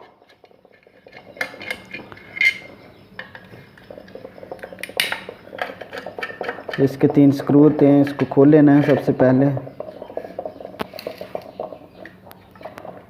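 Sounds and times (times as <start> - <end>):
metal clinks and knocks: 0.0 - 13.0.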